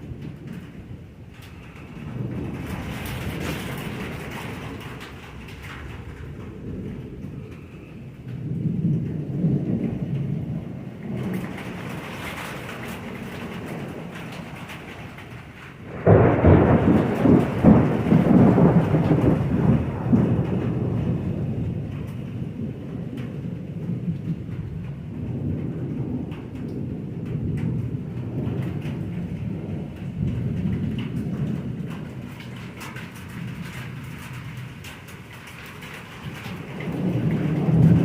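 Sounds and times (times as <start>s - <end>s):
steady rain: 0.0s - 38.0s
thunder crack and rumble: 0.0s - 38.0s.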